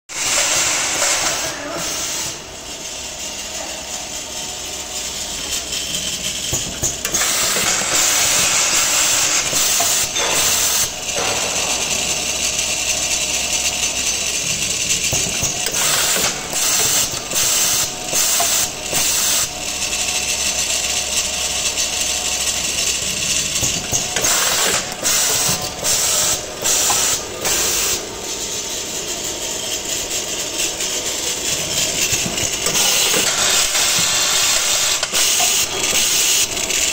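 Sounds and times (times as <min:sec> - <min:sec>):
tapping machine clatter: 0:05.5 - 0:28.0, 0:29.3 - 0:36.9.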